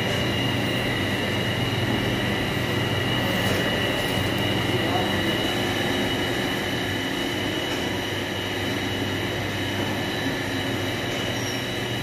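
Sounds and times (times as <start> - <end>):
bread oven machinery hum: 0.0 - 12.0.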